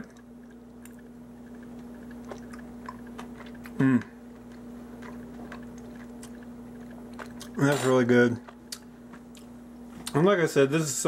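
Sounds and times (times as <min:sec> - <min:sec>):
person chewing: 0:00.0 - 0:10.2
steady low hum: 0:00.0 - 0:11.0.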